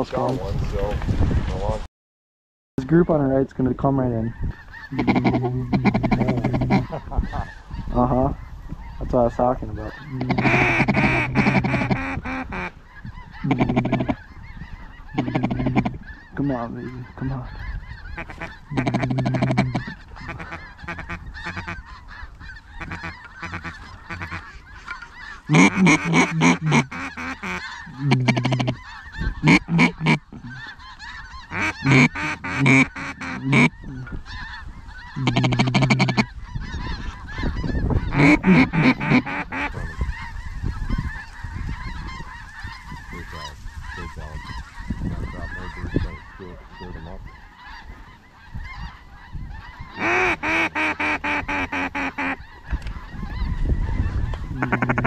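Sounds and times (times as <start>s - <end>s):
chatter of many birds: 0.0s - 1.9s, 2.8s - 55.0s
loud reedy waterfowl calls: 2.8s - 55.0s.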